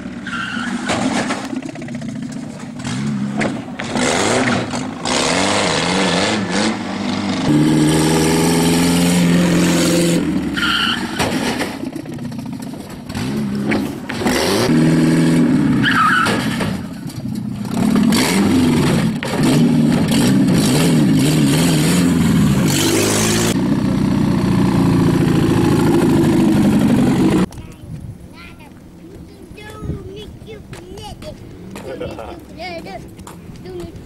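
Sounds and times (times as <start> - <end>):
car engine revving: 0.0 - 27.5.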